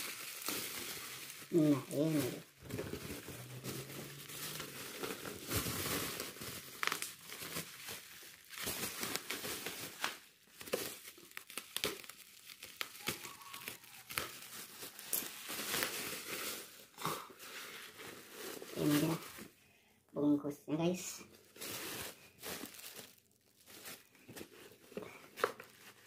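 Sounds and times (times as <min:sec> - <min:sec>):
bubble wrap and plastic crinkling: 0:00.0 - 0:19.6, 0:21.2 - 0:26.0.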